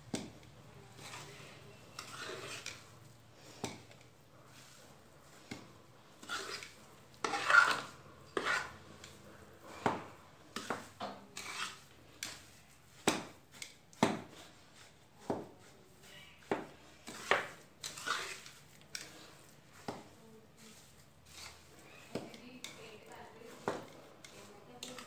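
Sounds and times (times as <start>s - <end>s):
metal spatula scraping a metal pan: 0.9s - 3.8s, 4.5s - 12.8s, 15.6s - 25.0s.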